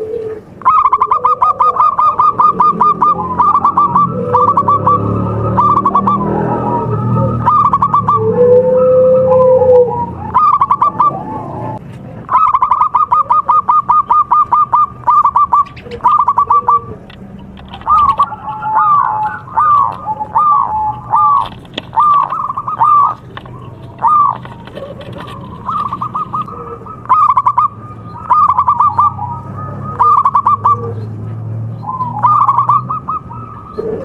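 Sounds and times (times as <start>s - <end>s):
doves cooing: 0.0s - 34.0s.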